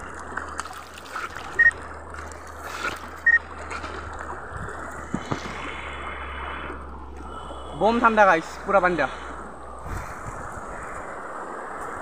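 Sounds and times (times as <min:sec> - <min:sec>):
stream running over rocks: 0:00.0 - 0:12.0
water splashing: 0:00.0 - 0:12.0.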